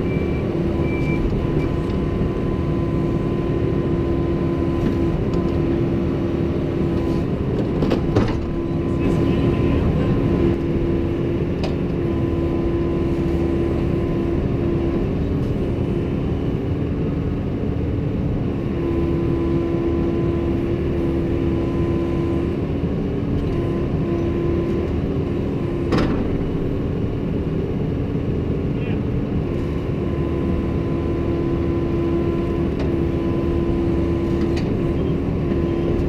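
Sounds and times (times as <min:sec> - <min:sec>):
excavator engine running: 0:00.0 - 0:36.0.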